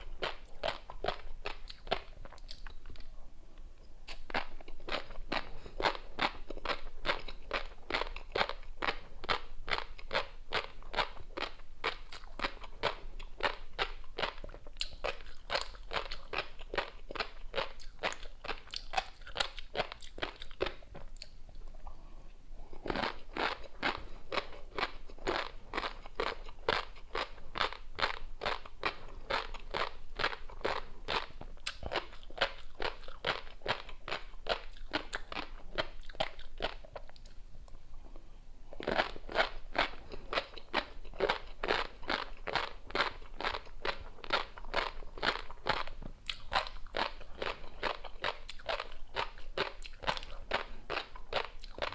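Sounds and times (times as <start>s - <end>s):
crunchy chewing: 0.0s - 3.1s, 4.0s - 37.8s, 38.7s - 51.9s.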